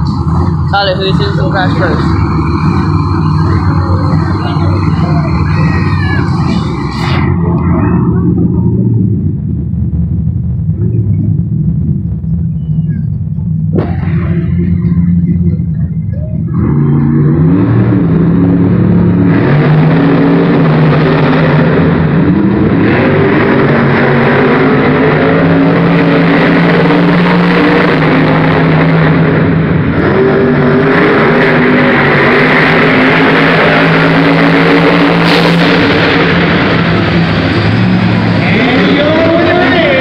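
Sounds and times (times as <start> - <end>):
truck engines revving hard: 0.0 - 40.0.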